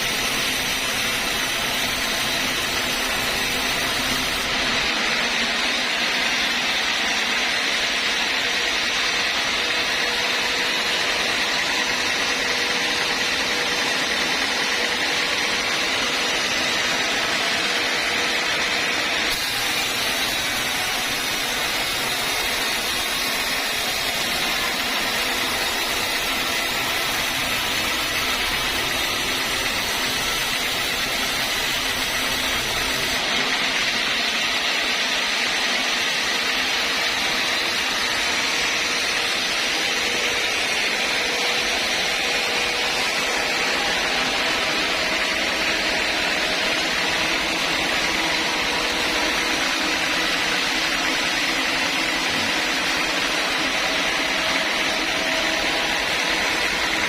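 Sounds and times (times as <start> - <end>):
saw cutting wood: 0.0 - 57.0.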